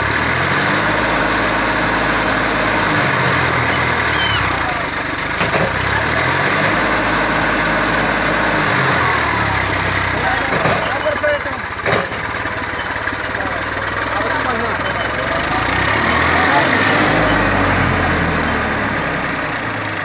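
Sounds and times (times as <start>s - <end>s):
tractor diesel engine labouring: 0.0s - 20.0s.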